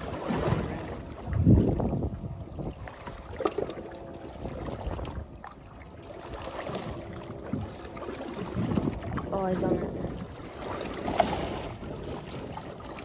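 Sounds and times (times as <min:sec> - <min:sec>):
faint boat hum: 0:00.0 - 0:13.0
water sloshing against hull: 0:00.0 - 0:13.0
wind on microphone: 0:00.0 - 0:13.0.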